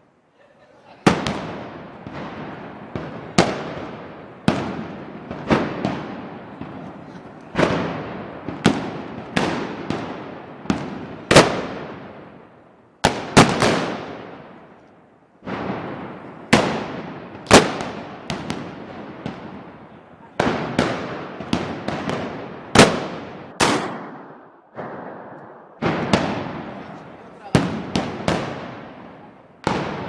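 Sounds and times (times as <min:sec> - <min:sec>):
echoing gunpowder bangs: 0:01.0 - 0:14.7, 0:15.4 - 0:30.0.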